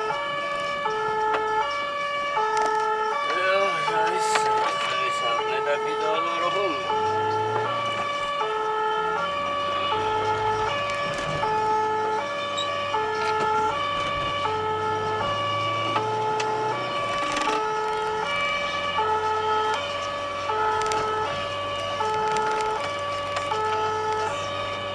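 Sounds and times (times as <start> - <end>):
car engine and road noise: 0.0 - 24.9
two-tone emergency siren: 0.0 - 24.9.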